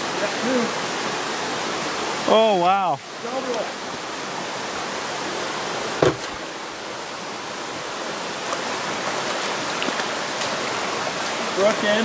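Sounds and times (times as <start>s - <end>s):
faint water splashes: 0.0s - 12.0s
stream rushing over rocks: 0.0s - 12.0s.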